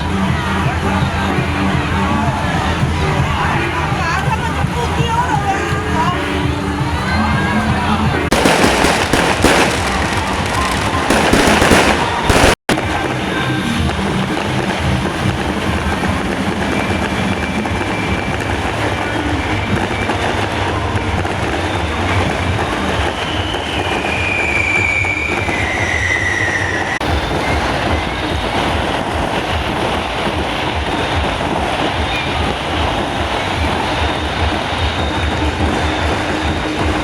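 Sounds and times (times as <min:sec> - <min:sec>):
truck mechanical rumble and clatter: 0:00.0 - 0:37.0.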